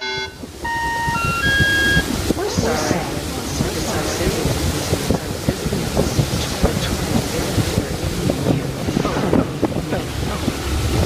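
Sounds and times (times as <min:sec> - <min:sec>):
water moving around a boat: 0:00.0 - 0:11.0
wind buffeting the microphone: 0:00.0 - 0:11.0.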